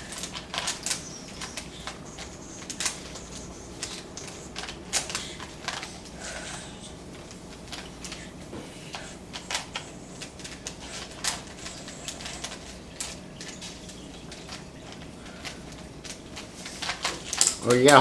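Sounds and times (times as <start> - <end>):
loud plastic clacks: 0.0 - 18.0.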